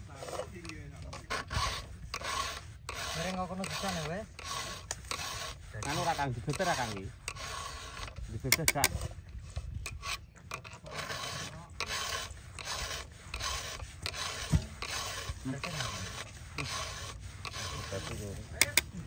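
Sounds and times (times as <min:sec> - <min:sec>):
rasping strokes: 0:00.0 - 0:19.0.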